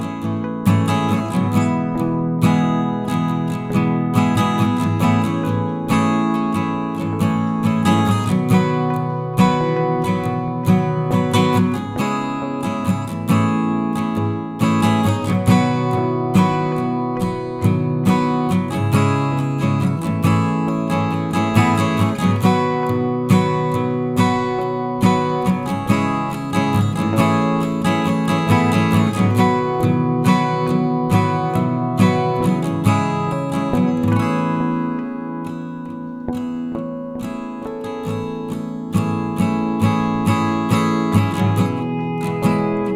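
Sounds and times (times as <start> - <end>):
strummed acoustic guitar: 0.0 - 42.9.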